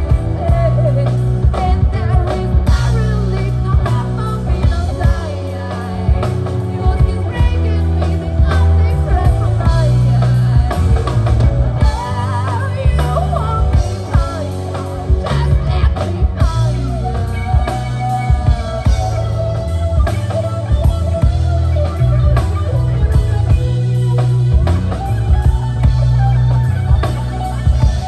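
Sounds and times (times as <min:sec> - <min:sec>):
rock music with singing: 0:00.0 - 0:28.0.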